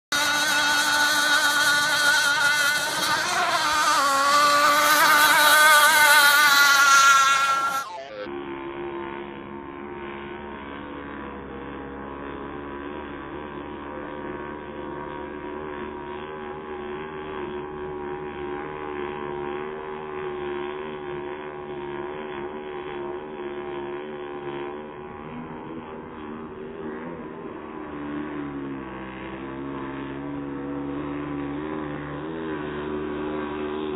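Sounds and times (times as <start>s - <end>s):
slowed-down engine drone: 0.0s - 33.9s.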